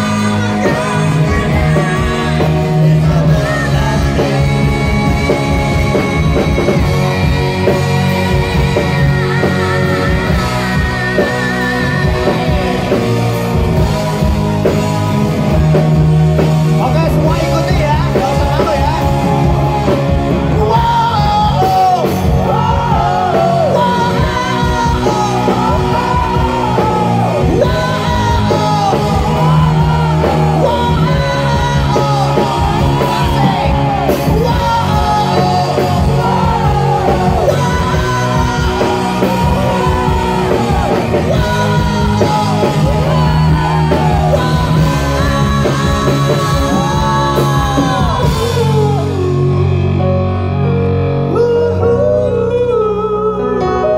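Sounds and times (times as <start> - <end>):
bass guitar: 0.0 - 53.9
electric guitar: 0.0 - 53.9
man singing lead vocals: 0.0 - 53.9.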